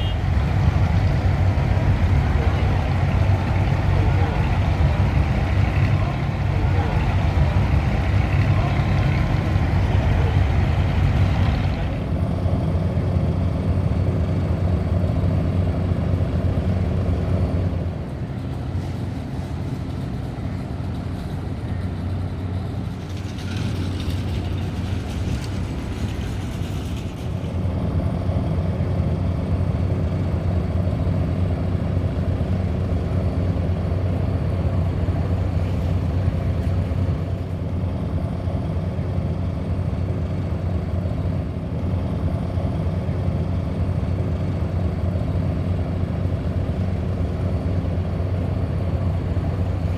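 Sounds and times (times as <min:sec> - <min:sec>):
ferry engines droning: 0:00.0 - 0:49.9.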